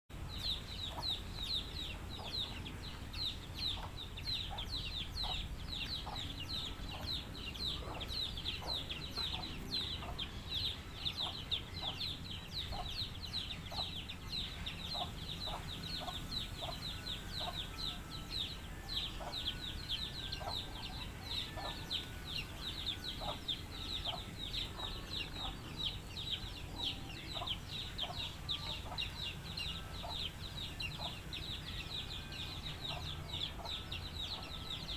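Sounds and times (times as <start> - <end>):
chicks peeping: 0.1 - 34.9
steady low hum: 0.1 - 34.9
chickens clucking: 0.2 - 34.9.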